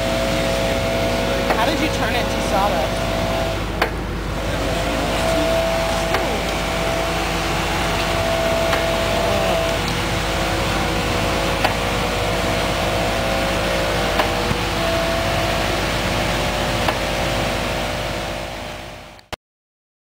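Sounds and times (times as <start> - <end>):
stump grinder loader running: 0.0 - 19.3.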